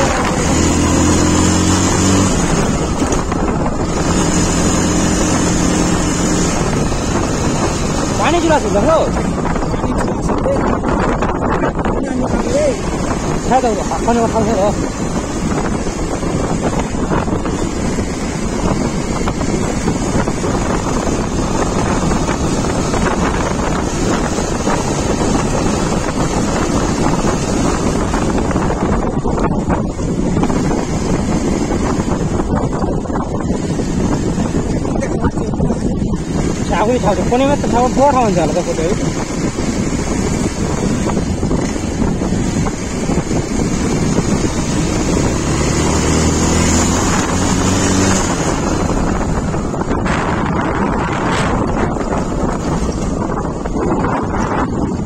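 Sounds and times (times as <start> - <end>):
motorcycle engine running: 0.0 - 55.0
road noise: 0.0 - 55.0
wind buffeting microphone: 0.0 - 55.0.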